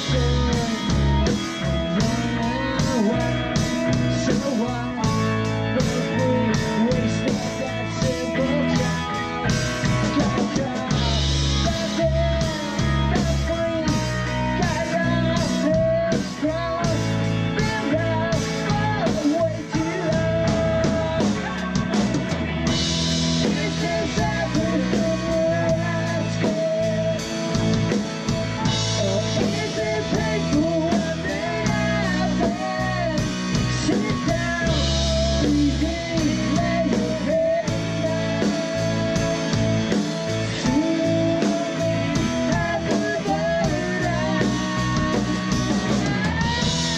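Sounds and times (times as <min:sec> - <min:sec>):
bending lead guitar melody: 0:00.0 - 0:46.9
rock band playing: 0:00.0 - 0:46.9.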